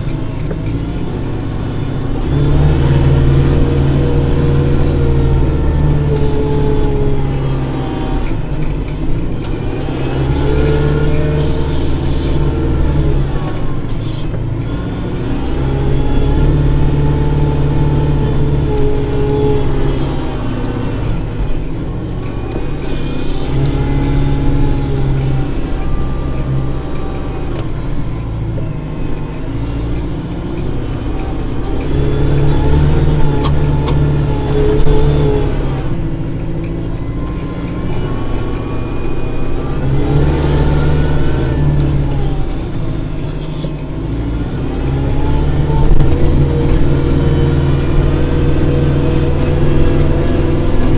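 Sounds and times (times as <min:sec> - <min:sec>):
tractor diesel engine working: 0:00.0 - 0:50.9.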